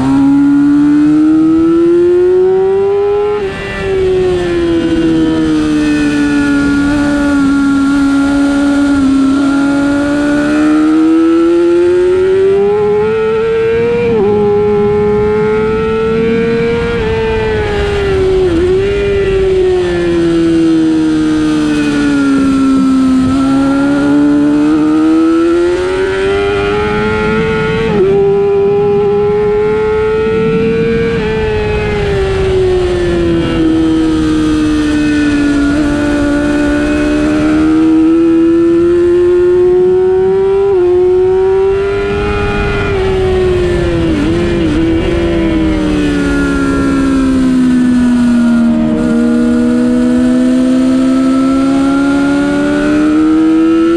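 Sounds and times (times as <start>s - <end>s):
motorcycle engine revving at speed: 0.0s - 53.9s.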